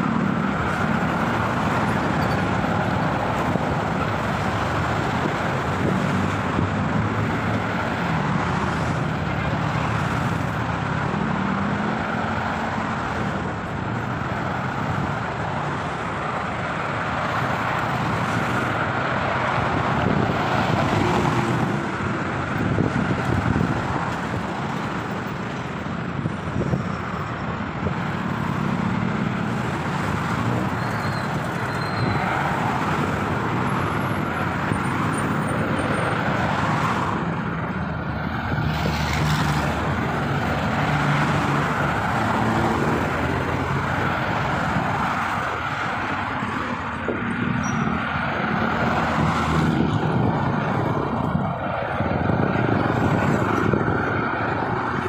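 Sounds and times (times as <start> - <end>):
expressway traffic passing: 0.0 - 55.0.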